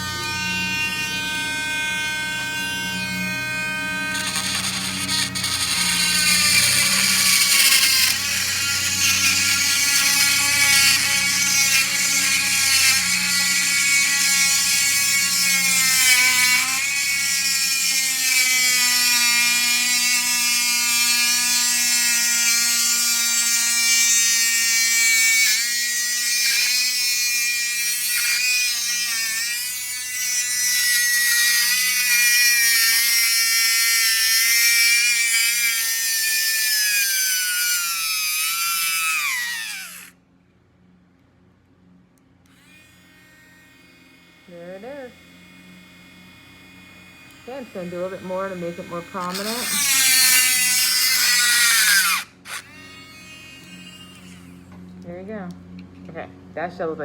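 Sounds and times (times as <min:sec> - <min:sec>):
rotary tool drilling into shell: 0:03.2 - 0:40.1, 0:42.5 - 0:54.9.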